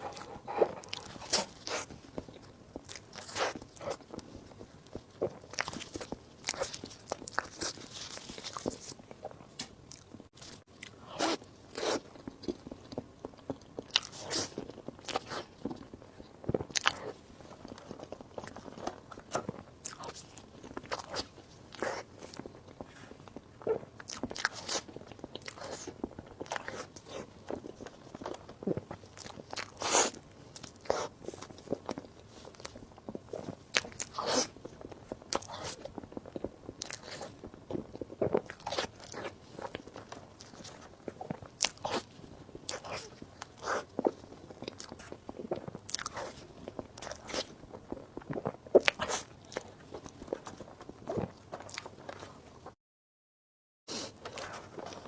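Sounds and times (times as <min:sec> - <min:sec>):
biting and chewing: 0:00.0 - 0:52.7, 0:53.9 - 0:55.0.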